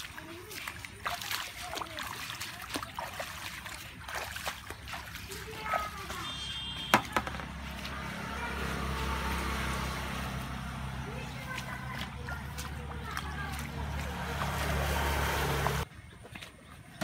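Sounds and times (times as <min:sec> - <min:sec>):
splashing in shallow muddy water: 0:00.0 - 0:17.0.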